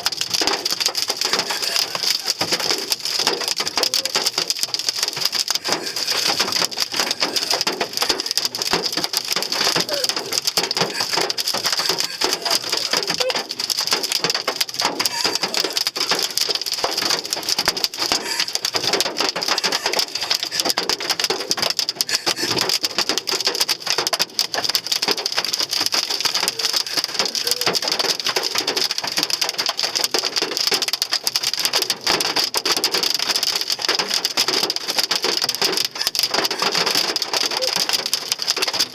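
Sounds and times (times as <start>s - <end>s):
hail pelting a car: 0.0s - 38.9s.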